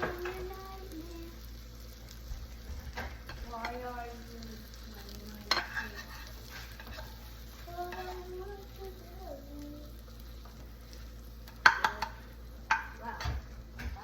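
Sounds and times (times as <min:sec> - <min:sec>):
corn sizzling in butter: 0:00.0 - 0:14.0.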